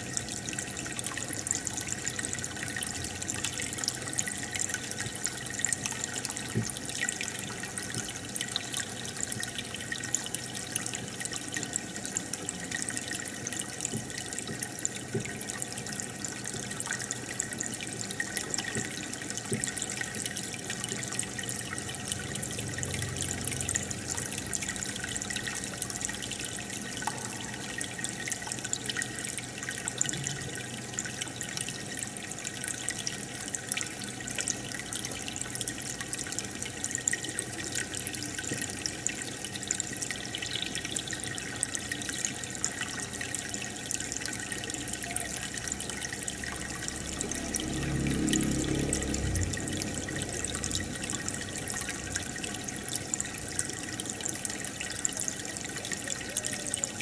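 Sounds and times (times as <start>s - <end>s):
aquarium bubbles rising: 0.0s - 57.0s
filter water trickling: 0.0s - 57.0s.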